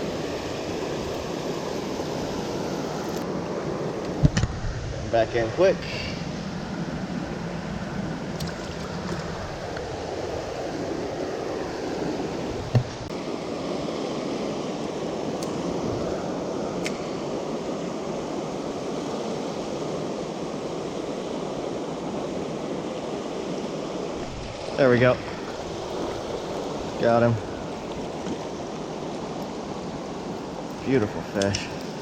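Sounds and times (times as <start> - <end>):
fast-flowing river rushing: 0.0 - 4.1, 5.4 - 32.0.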